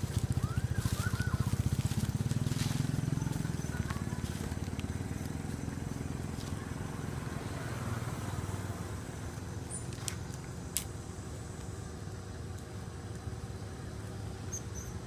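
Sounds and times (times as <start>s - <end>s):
low steady motor rumble: 0.0s - 15.0s.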